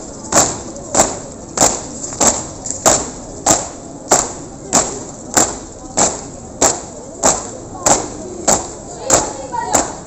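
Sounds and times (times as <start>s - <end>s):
marching thuds: 0.0s - 10.0s.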